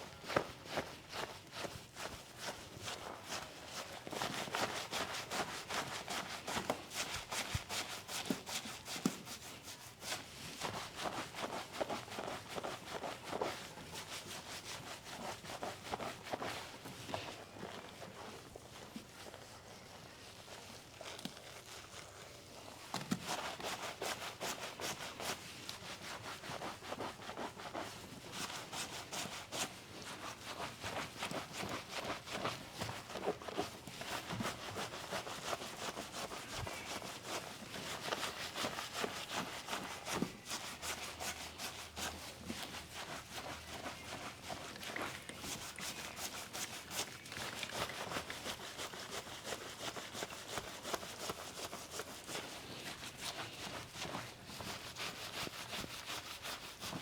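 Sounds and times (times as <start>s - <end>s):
hands rubbing skin: 0.3s - 57.0s.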